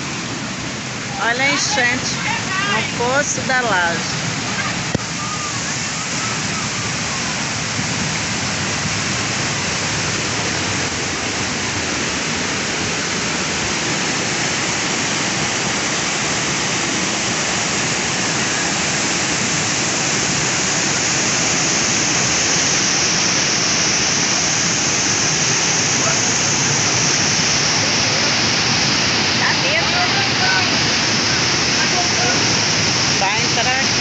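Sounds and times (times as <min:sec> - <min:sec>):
water rushing over waterfall: 0:00.0 - 0:34.0.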